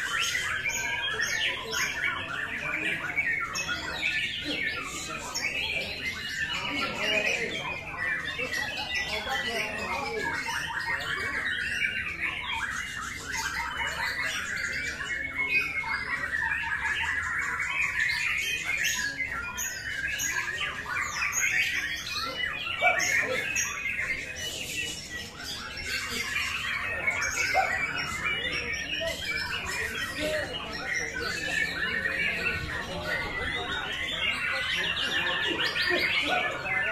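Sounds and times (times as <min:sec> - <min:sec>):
songbird singing: 0:00.0 - 0:36.9.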